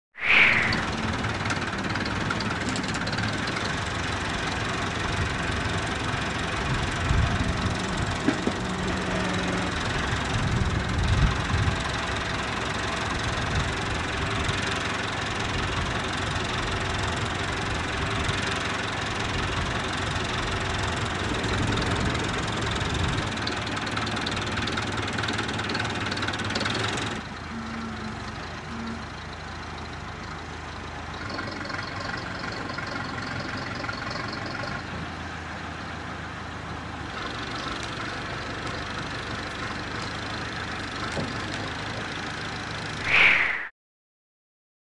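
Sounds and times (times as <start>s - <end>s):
tractor engine running: 0.9s - 43.0s.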